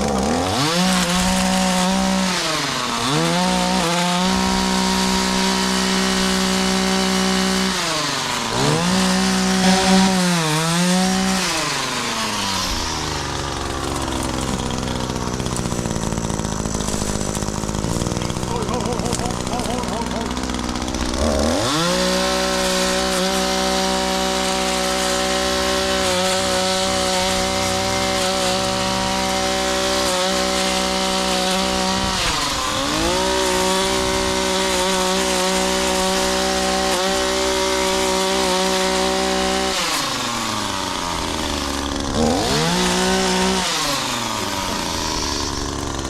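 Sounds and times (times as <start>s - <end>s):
chainsaw cutting wood: 0.0s - 46.0s.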